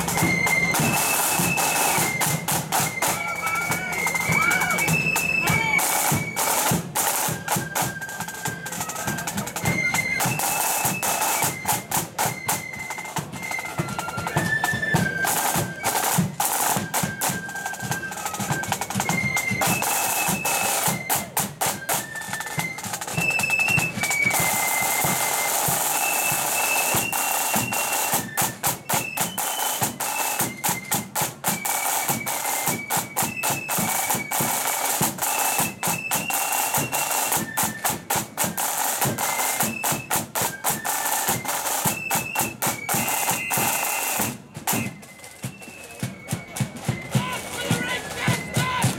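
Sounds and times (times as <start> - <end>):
flute melody: 0.0 - 48.9
snare drum strokes and rolls: 0.0 - 48.9.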